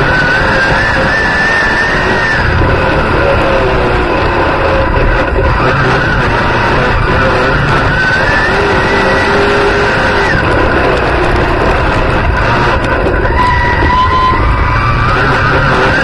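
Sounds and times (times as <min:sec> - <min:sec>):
race car engine revving: 0:00.0 - 0:16.0
tyres roaring on dirt: 0:00.0 - 0:16.0.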